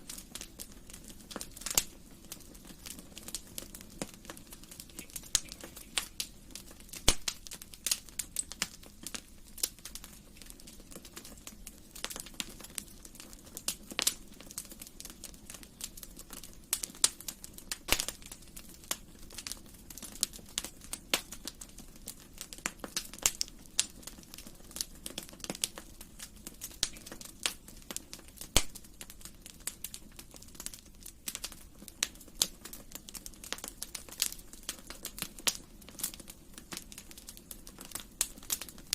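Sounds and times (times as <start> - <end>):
low rumble of burning: 0.0 - 38.9
wood fire crackling: 0.0 - 38.9.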